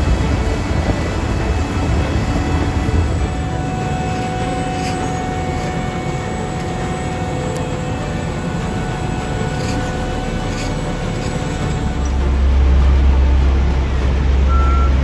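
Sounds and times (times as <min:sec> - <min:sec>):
diesel machinery running: 0:00.0 - 0:15.0
faint whine: 0:00.0 - 0:15.0.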